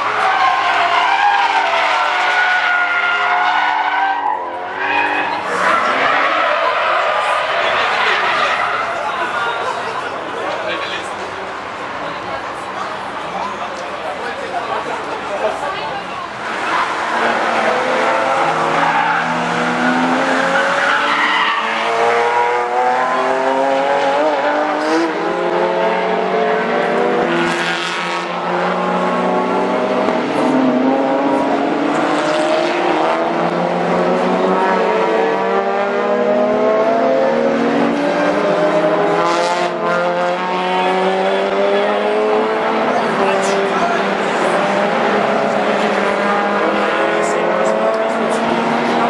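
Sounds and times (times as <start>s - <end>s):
race car engines revving: 0.0s - 49.0s.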